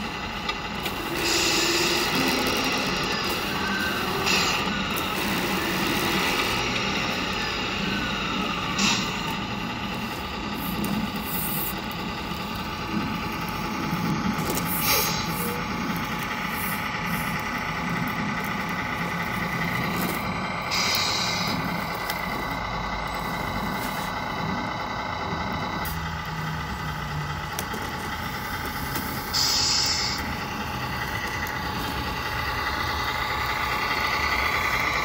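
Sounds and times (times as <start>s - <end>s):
model truck engine drone: 0.0s - 35.0s.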